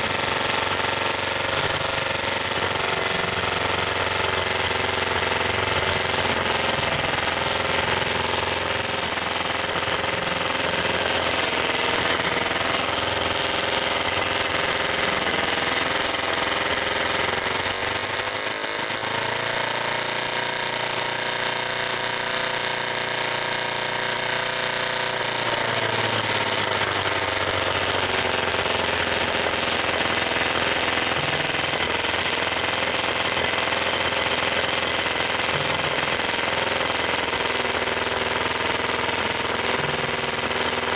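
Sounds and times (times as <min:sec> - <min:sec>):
model gasoline engine running: 0:00.0 - 0:40.9.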